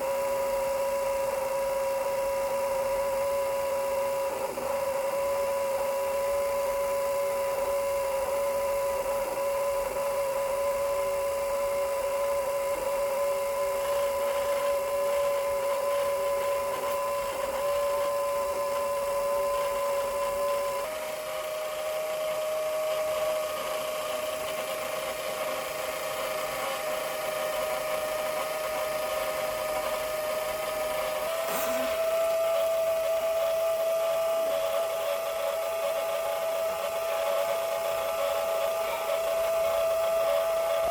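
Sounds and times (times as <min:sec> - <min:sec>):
small electric motor humming: 0:00.0 - 0:40.9.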